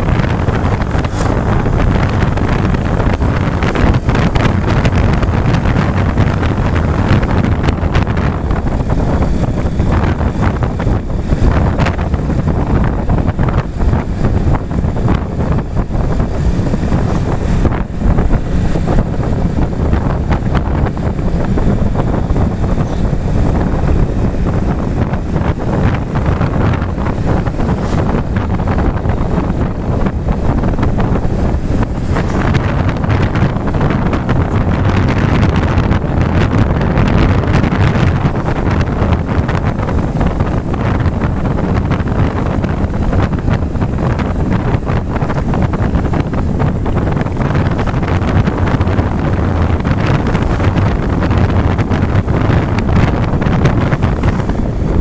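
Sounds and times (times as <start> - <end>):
vehicle running noise: 0.0 - 55.0
wind buffeting microphone: 0.0 - 55.0.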